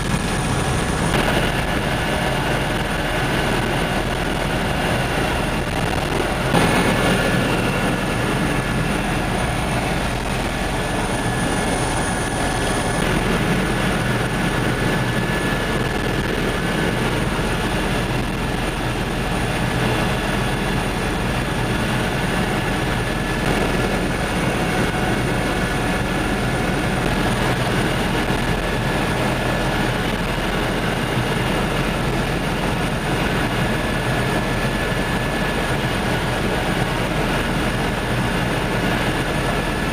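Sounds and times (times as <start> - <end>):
helicopter engine and rotor rush: 0.0 - 39.9
thin steady whines: 0.0 - 39.9.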